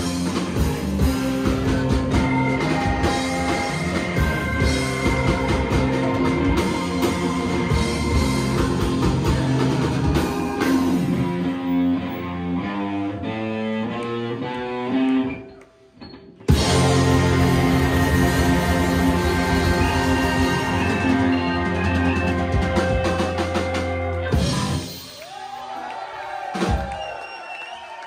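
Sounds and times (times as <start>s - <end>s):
live rock and roll band: 0.0s - 15.5s, 16.4s - 25.2s.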